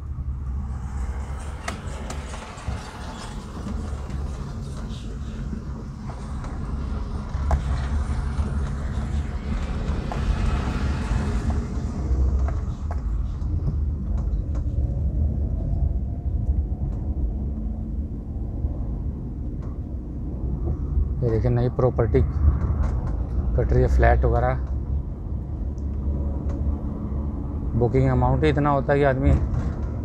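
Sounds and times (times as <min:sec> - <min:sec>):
car tyre and engine rumble: 0:00.0 - 0:30.0.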